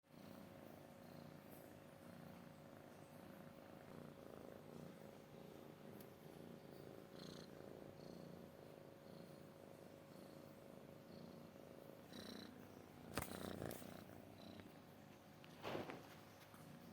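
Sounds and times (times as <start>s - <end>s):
cat purring: 0.1s - 16.9s.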